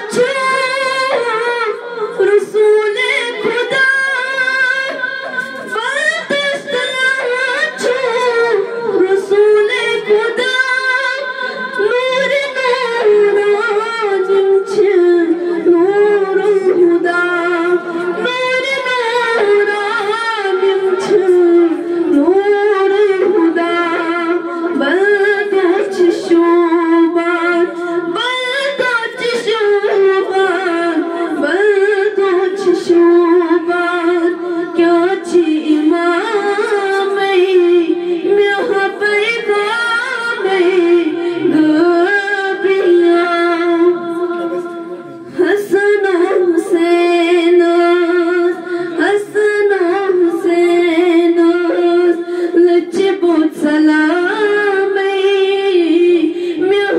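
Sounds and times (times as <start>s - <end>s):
woman singing unaccompanied: 0.0s - 44.6s, 45.4s - 56.9s.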